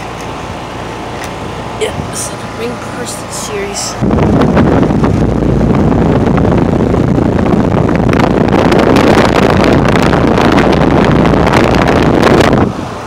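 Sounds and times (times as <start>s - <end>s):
air conditioner fan wind rush: 0.0s - 13.0s.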